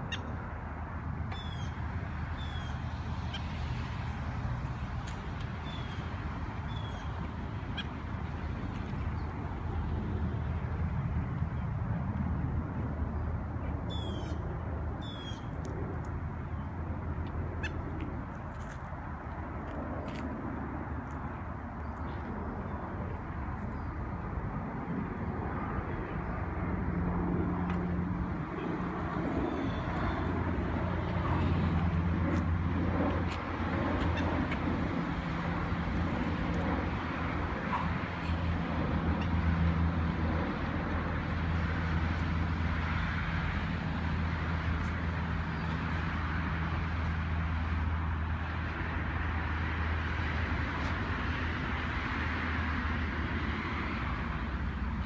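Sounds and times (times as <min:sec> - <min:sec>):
low engine drone: 0:00.0 - 0:55.0
motor traffic rumble: 0:00.0 - 0:55.0.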